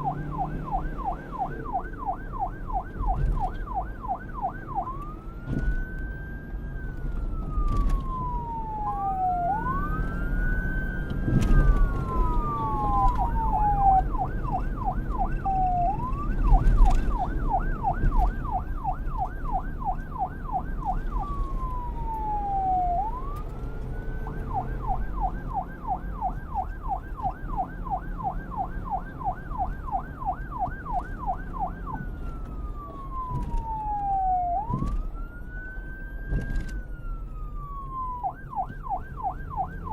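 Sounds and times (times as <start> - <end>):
police siren wail and yelp: 0.0 - 39.9.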